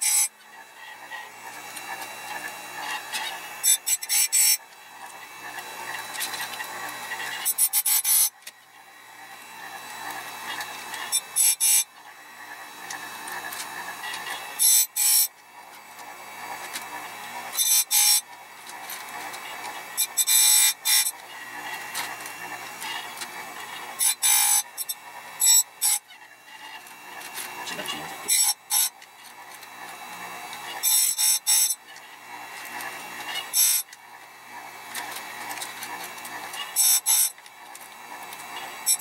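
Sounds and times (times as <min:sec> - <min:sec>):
grinding wheel on chain: 0:00.0 - 0:39.0
sharpener motor whirring: 0:00.0 - 0:39.0.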